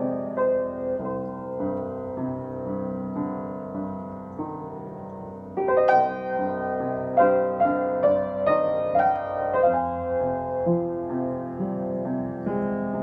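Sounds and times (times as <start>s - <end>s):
piano playing slowly: 0.0s - 13.0s.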